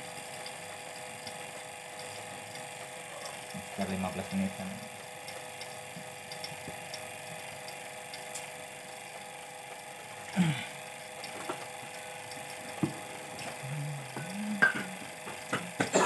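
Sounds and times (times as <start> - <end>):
vacuum pump motor humming: 0.0 - 16.0.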